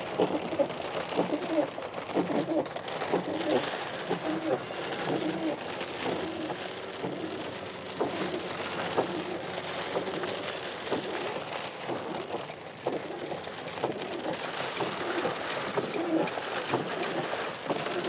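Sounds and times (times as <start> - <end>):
heavy rain pattering: 0.0 - 18.0.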